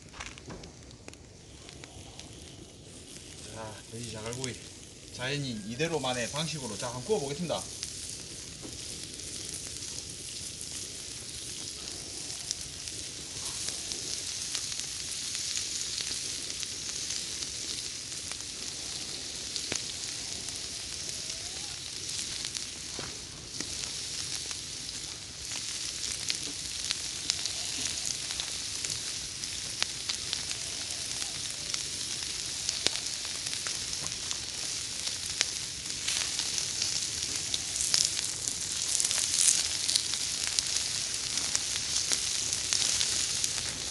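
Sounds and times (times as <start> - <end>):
pork sizzling on hot gravel: 0.0 - 43.9
small pops and crackles: 0.0 - 43.9.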